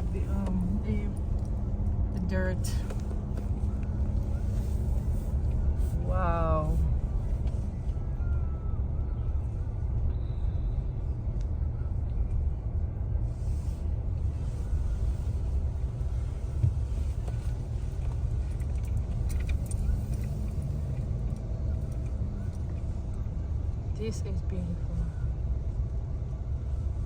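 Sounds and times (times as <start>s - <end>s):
car engine rumble: 0.0s - 27.0s
road noise inside car: 0.0s - 27.0s.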